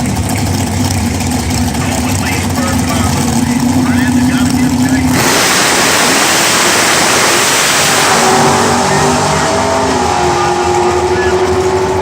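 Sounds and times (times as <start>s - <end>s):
drag car engine running hard: 0.0s - 12.0s.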